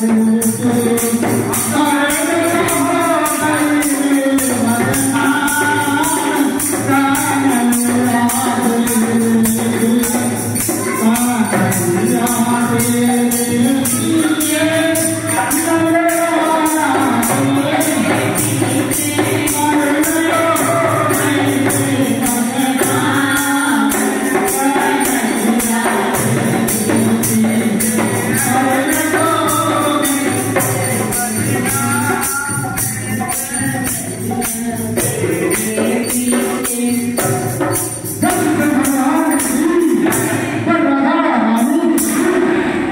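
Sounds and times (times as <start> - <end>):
hand drum beat: 0.0 - 40.7
jingling hand percussion: 0.0 - 42.9
man singing into a microphone: 0.0 - 42.9.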